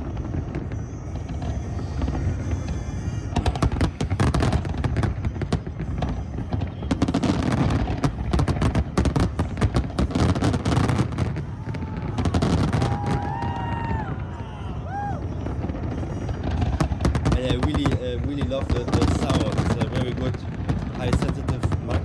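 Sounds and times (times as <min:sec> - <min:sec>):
fireworks bangs and crackling: 0:00.0 - 0:22.0
whistling fireworks: 0:00.0 - 0:22.0.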